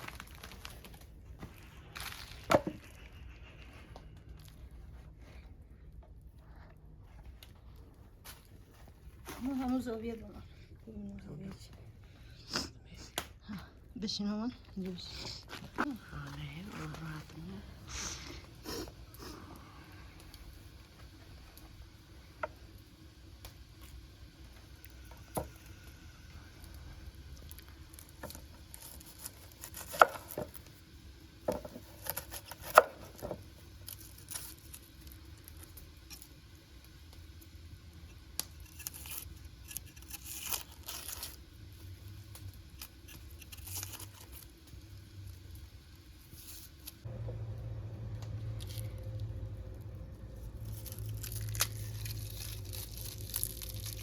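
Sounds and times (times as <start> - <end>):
rustling and crinkling: 0.0 - 12.2, 14.4 - 21.8, 23.5 - 37.4, 38.1 - 47.1, 48.4 - 54.0
steady low hum: 0.0 - 54.0.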